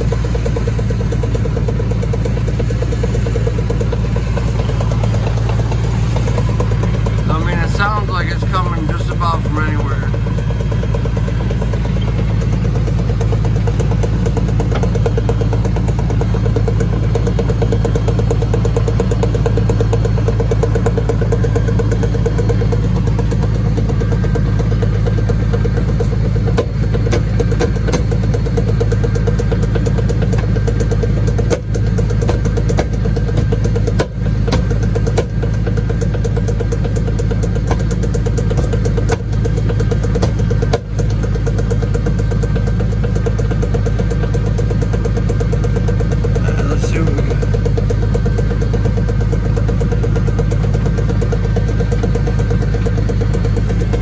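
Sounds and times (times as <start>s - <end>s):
drivetrain hum: 0.0s - 54.0s.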